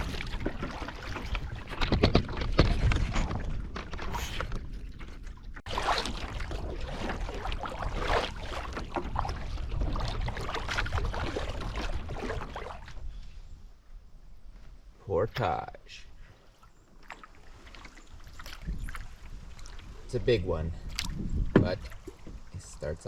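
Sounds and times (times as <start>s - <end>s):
paddle splashing in water: 0.0s - 13.1s, 16.4s - 20.1s, 20.8s - 22.6s
wind rumbling on microphone: 0.0s - 14.5s, 18.0s - 23.0s.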